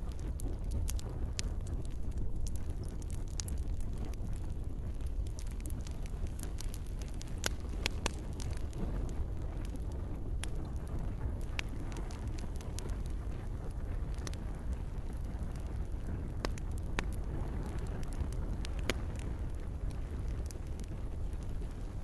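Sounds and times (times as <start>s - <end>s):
gentle rain: 0.0s - 22.0s
wood campfire crackling: 0.0s - 22.0s.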